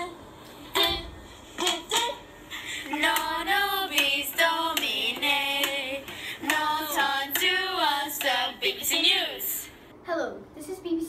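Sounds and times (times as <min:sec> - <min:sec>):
high voice singing: 0:00.0 - 0:09.7.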